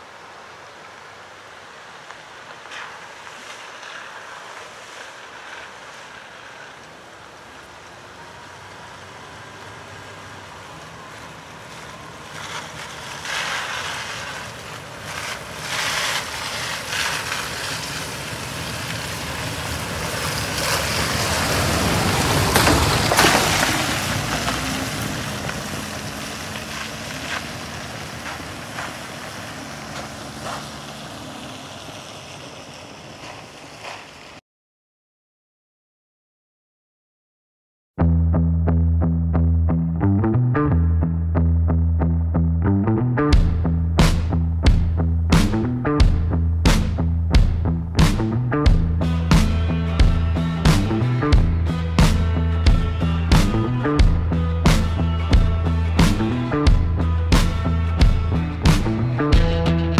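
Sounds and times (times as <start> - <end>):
vehicle passing on wet dirt road: 0.0 - 34.4, 38.0 - 59.9.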